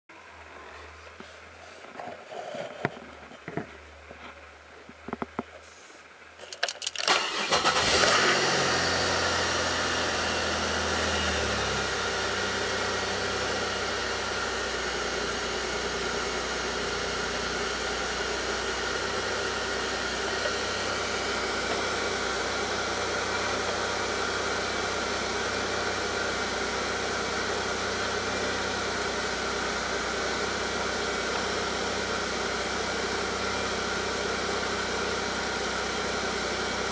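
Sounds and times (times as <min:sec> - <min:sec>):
car engine starting and idling roughly: 0:06.6 - 0:36.9.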